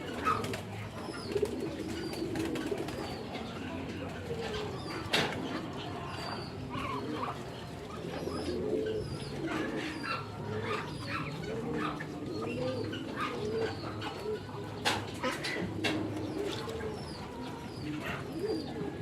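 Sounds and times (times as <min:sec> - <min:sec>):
birds chirping: 0:00.0 - 0:19.0
birds cooing: 0:00.0 - 0:19.0.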